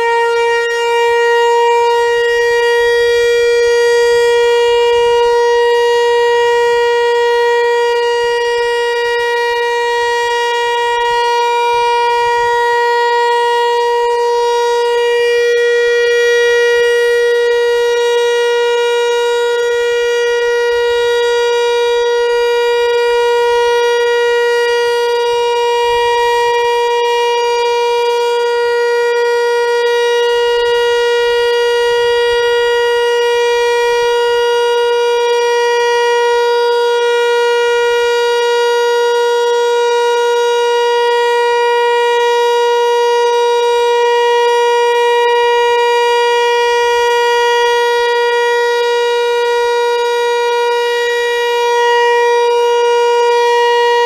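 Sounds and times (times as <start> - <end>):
tornado siren steady tone: 0.0 - 54.0.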